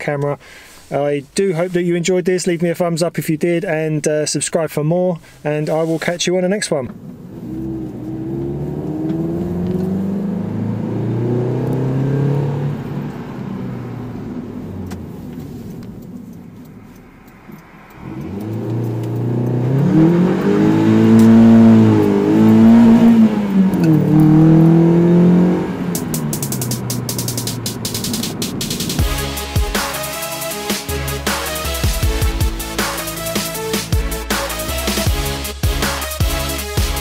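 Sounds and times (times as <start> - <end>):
car engine accelerating: 6.9 - 37.0.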